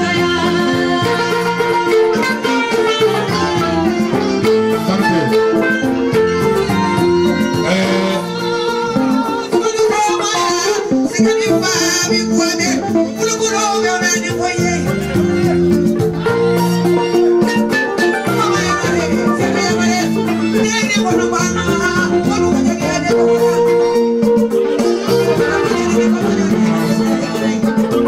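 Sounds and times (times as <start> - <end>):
person singing through loudspeakers: 0.0 - 5.8, 7.2 - 15.2, 18.2 - 24.0, 25.0 - 28.0
plucked strings accompaniment: 0.0 - 28.0.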